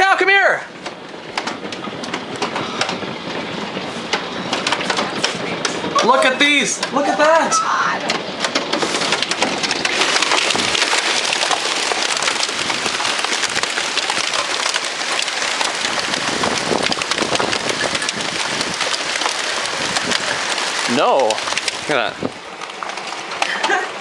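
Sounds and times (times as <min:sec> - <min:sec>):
hailstones rattling: 0:00.0 - 0:24.0
rain hissing: 0:00.7 - 0:24.0.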